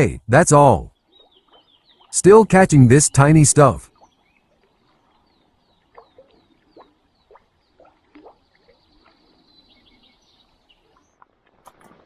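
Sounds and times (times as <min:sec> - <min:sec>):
faint birdsong chirps: 0:00.0 - 0:11.2.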